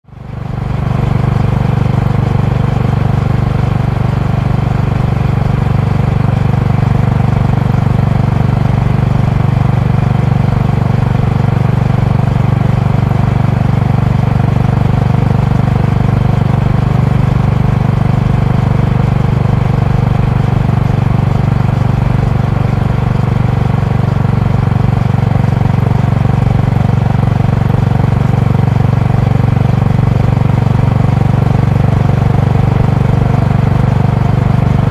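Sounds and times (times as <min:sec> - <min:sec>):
motorcycle engine cruising: 0:00.1 - 0:34.9.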